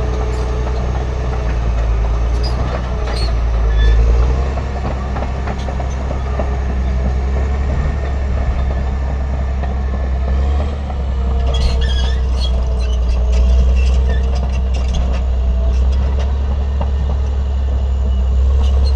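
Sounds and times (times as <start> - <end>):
construction machinery engine running: 0.0 - 18.9.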